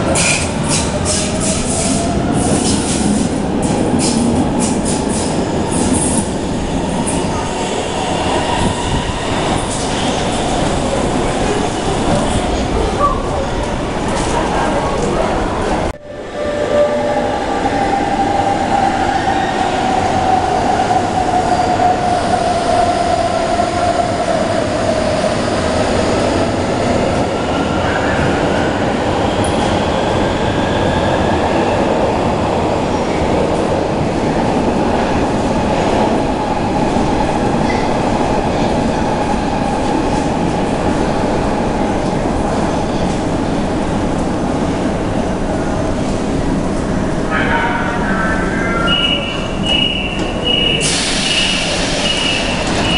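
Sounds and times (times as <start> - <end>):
train rumble: 0.0 - 52.9.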